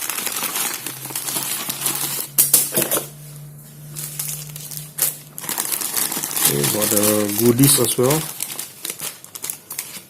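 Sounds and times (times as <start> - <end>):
faint steady hum: 0.0 - 10.0
packaging rustling: 0.0 - 10.0.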